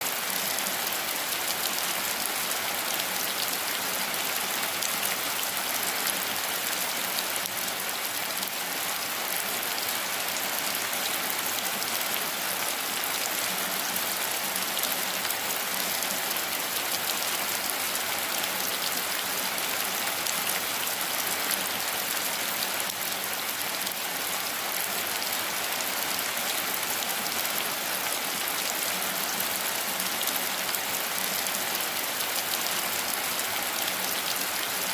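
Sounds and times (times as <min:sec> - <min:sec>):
steady rain pattering: 0:00.0 - 0:34.9.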